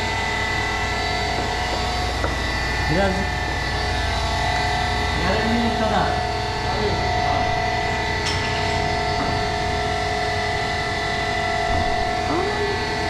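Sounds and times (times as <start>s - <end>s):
workshop machine droning: 0.0s - 13.0s.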